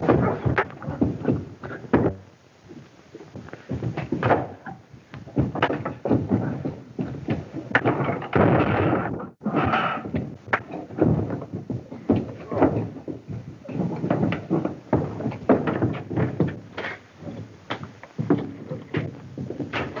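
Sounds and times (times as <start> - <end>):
thumps knocks and bangs: 0.0 - 20.0.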